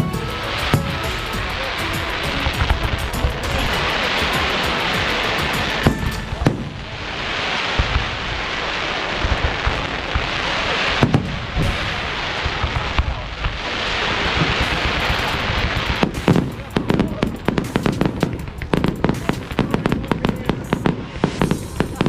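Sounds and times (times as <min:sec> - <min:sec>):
fireworks bangs: 0:00.0 - 0:22.0
fireworks hiss: 0:00.0 - 0:22.0.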